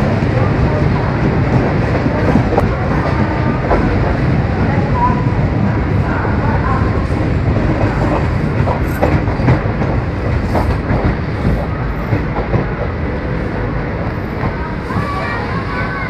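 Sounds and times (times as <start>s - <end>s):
train coach rumble: 0.0s - 16.0s.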